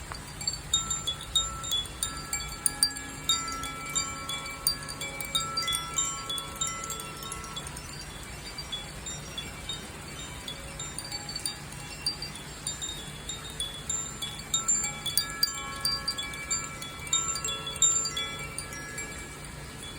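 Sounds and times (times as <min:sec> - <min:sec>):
metal chime tinkling: 0:00.0 - 0:19.9.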